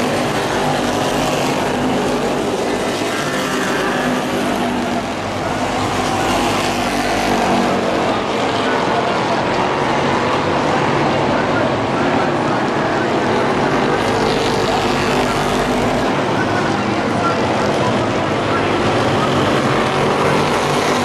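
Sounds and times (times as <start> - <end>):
racing truck engines at full throttle: 0.0 - 21.0.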